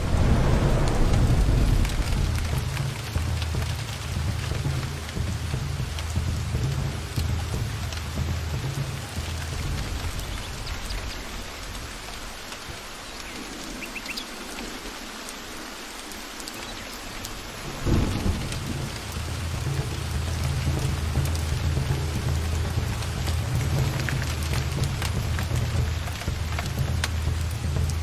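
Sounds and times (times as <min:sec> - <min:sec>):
rolling thunder: 0:00.0 - 0:12.6, 0:17.3 - 0:28.0
thunderclap: 0:00.0 - 0:12.6, 0:17.3 - 0:28.0
heavy rain: 0:00.0 - 0:28.0.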